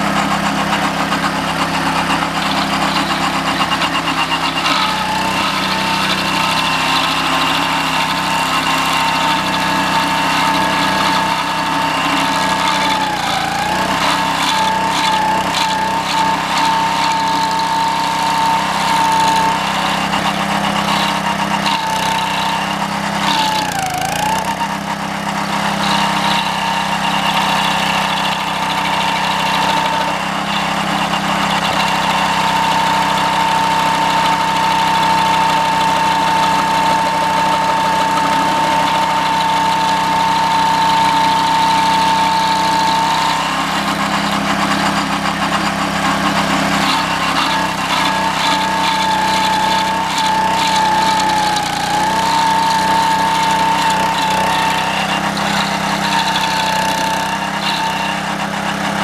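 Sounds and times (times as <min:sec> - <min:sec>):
cutting wheel clattering on wood: 0:00.0 - 0:59.0
small engine running: 0:00.0 - 0:59.0.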